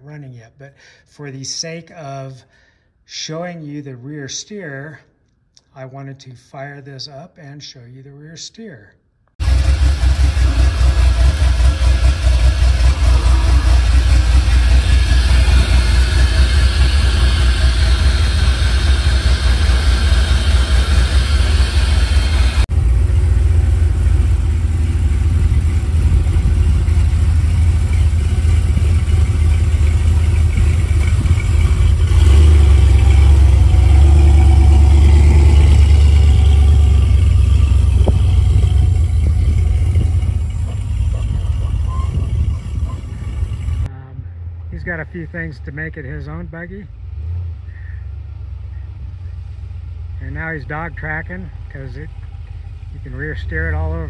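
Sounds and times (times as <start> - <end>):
rock buggy engine running: 9.4 - 43.9, 44.7 - 54.0.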